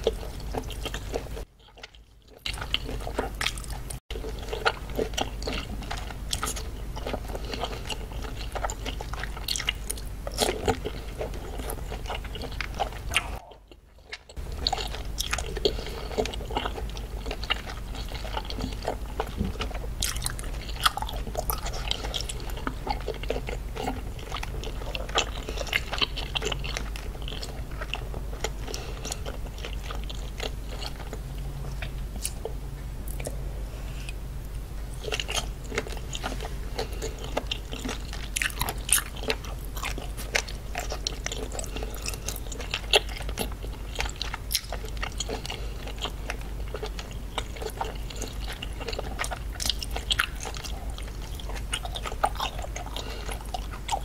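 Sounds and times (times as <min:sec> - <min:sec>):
person chewing: 0:00.0 - 0:34.2, 0:34.9 - 0:54.0
low steady hum: 0:00.0 - 0:54.0.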